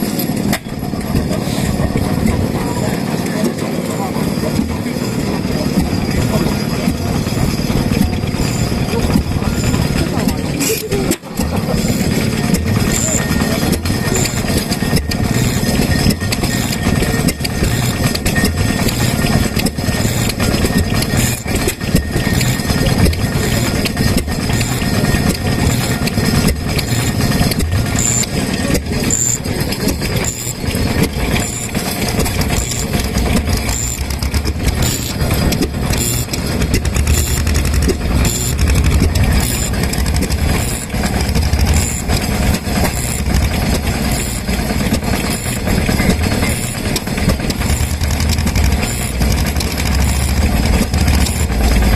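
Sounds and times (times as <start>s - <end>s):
stationary engines chugging: 0.0s - 51.9s.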